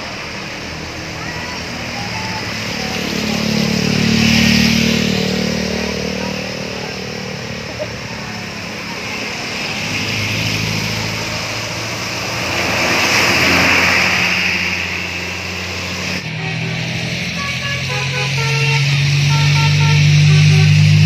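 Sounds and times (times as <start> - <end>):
traffic on wet road: 0.0 - 21.0.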